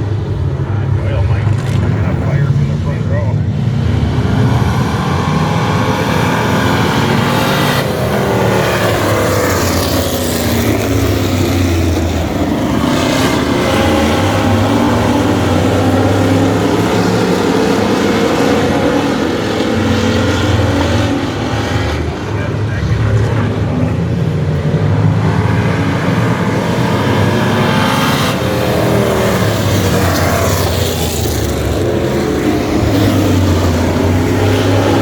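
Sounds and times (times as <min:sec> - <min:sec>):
race car engines passing by: 0:00.0 - 0:35.0.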